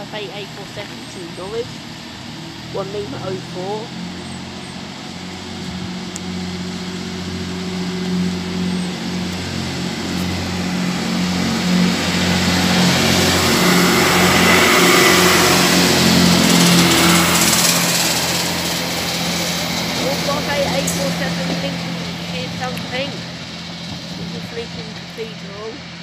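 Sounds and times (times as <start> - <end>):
train diesel engines droning: 0.0 - 26.0
train wheels rushing on rail: 0.0 - 26.0.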